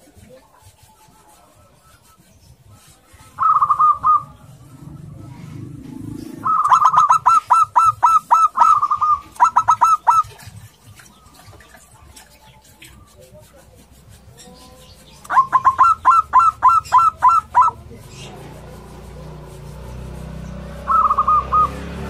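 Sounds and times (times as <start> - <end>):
dove cooing: 0.7 - 22.0.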